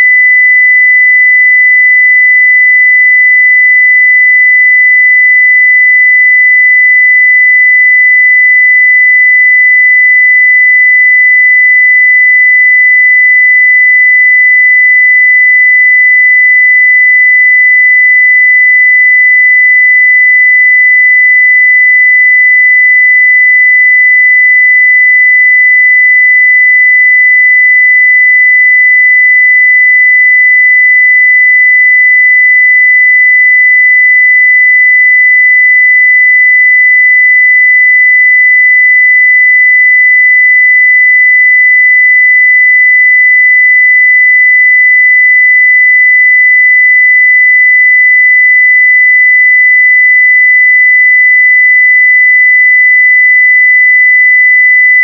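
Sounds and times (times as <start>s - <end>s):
sine-wave test tone: 0.0s - 55.0s.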